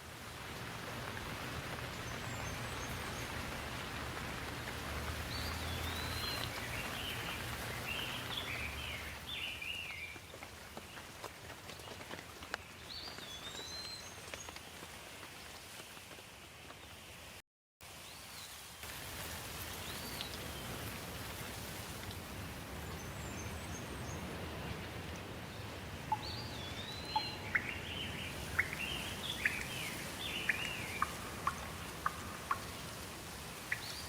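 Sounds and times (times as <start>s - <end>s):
steady rain falling: 0.0s - 34.0s
water drips: 0.4s - 15.6s, 18.8s - 34.0s.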